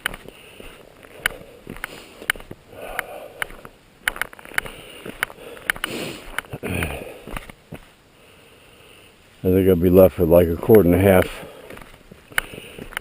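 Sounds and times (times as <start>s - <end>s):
crunching footsteps: 0.0s - 8.0s, 9.4s - 13.0s.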